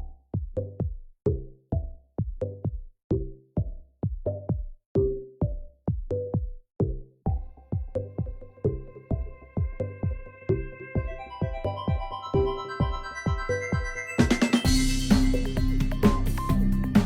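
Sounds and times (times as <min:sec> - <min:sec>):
electronic music with drum-machine beat: 0:00.0 - 0:17.0.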